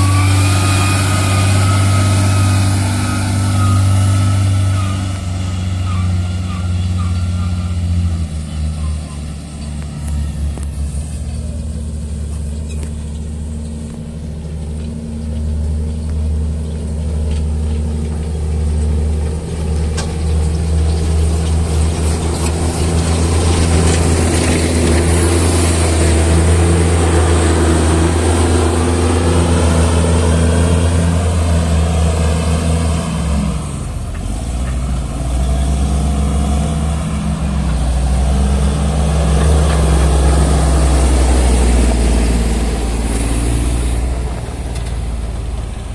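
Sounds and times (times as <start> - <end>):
heavy engine running under load: 0.0 - 45.9.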